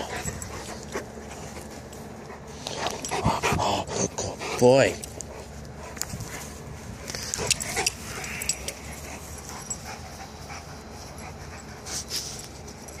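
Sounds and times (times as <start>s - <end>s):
dogs panting and scuffling: 0.0s - 13.0s.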